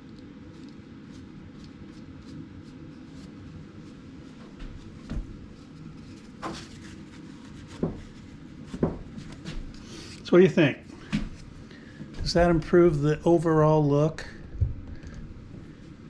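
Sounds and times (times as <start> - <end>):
steady low background noise: 0.0 - 16.0.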